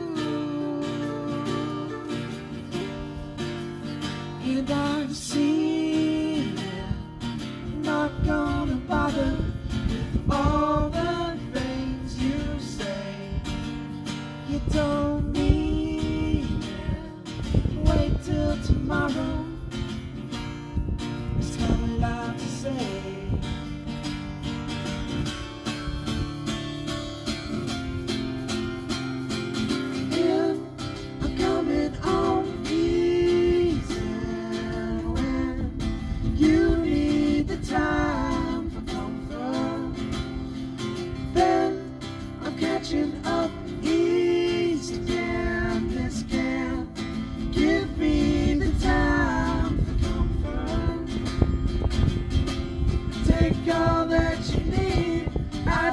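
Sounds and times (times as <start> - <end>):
men singing: 0.0 - 19.7, 21.4 - 23.4, 29.7 - 51.5, 53.1 - 55.9
acoustic guitar strumming: 0.0 - 55.9.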